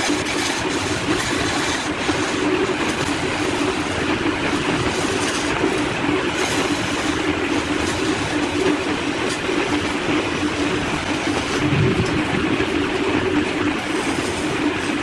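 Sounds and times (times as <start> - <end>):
woodworking power tool running: 0.0 - 15.0.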